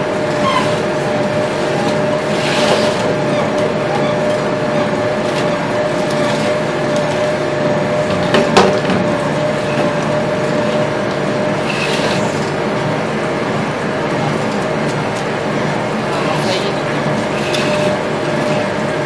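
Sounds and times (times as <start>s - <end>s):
extrusion press running: 0.0s - 19.0s.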